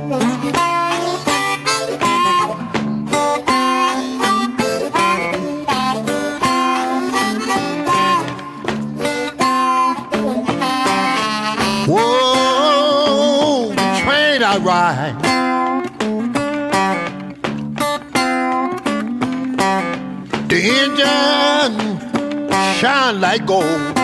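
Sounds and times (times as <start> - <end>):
blues harmonica: 0.0 - 24.0
guitar accompaniment: 0.0 - 24.0.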